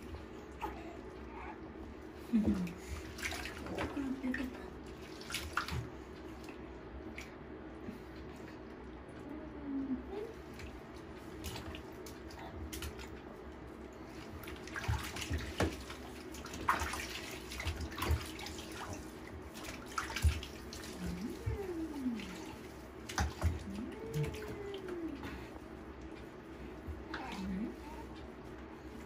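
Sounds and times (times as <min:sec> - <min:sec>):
water splashing in a bathtub: 0:00.0 - 0:29.0.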